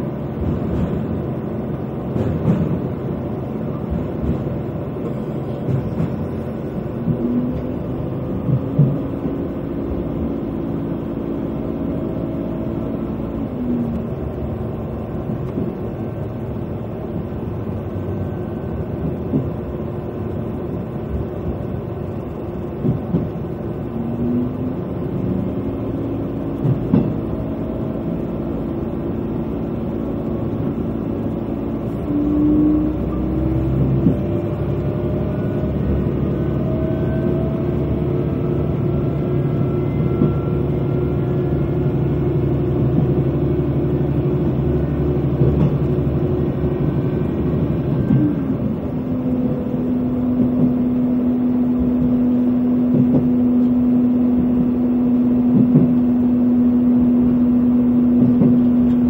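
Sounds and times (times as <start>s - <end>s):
diesel engine droning: 0.0s - 59.0s
wheels rumbling on rails: 0.0s - 59.0s.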